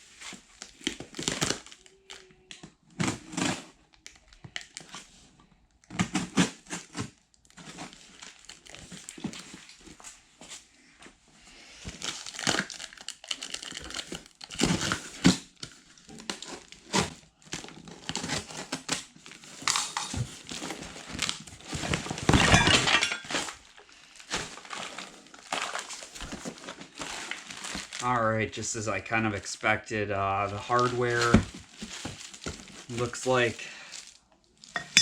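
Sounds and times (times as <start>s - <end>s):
packaging rustling and crinkling: 0.0s - 10.7s, 11.7s - 29.7s, 30.3s - 35.0s.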